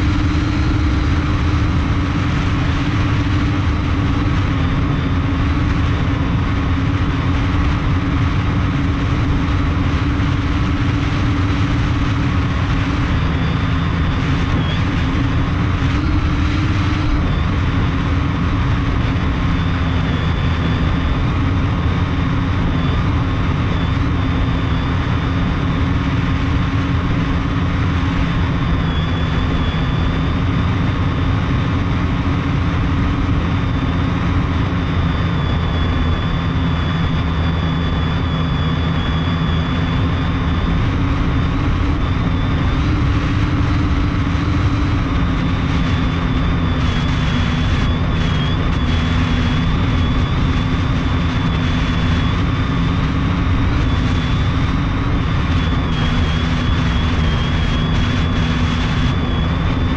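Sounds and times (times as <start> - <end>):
drone motors humming: 0.0 - 59.9.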